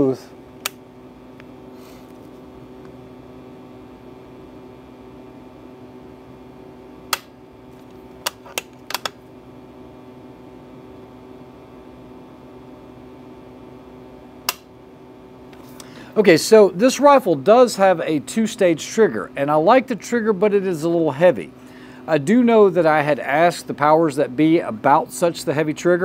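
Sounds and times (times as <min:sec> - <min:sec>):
fan-like hum: 0:00.0 - 0:26.0.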